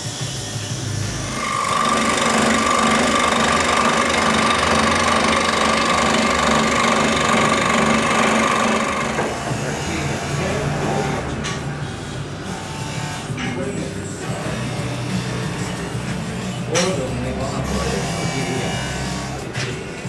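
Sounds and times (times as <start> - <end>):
electric bench saw whining: 0.0 - 20.0.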